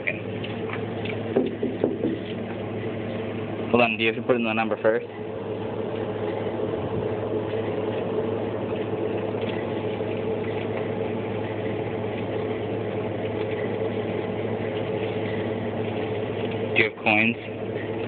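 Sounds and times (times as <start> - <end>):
vending machine cooling hum: 0.0 - 18.0.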